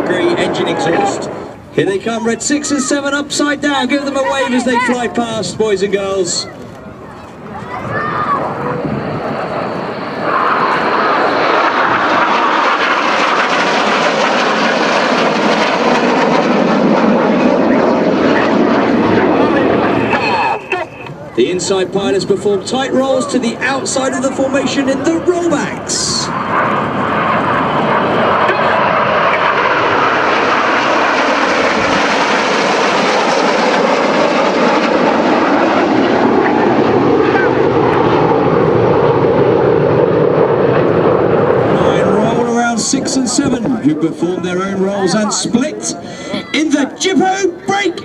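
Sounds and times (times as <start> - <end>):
jet aircraft roar: 0.0 - 48.0.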